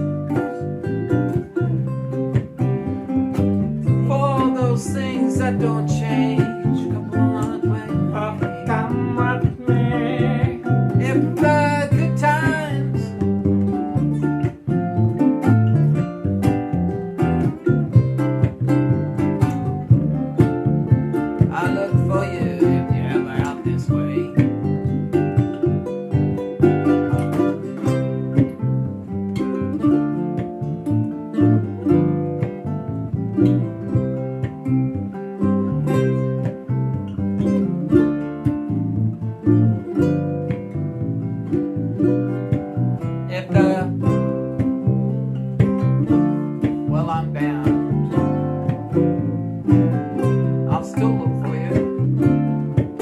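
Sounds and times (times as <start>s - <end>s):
guitar plucking bossa nova chords: 0.0s - 53.0s.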